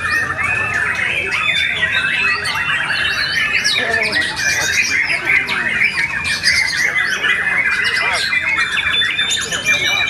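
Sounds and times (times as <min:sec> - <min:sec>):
bird singing fast whistles and trills: 0:00.0 - 0:10.0
other birds singing: 0:00.0 - 0:10.0.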